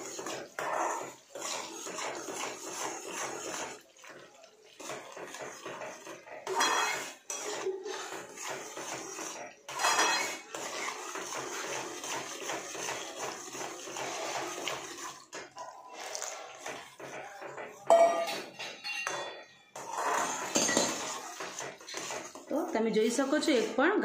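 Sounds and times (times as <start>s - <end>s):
mixture sizzling: 0.0s - 18.6s, 19.7s - 24.0s
metal spoon scraping pan: 0.0s - 24.0s.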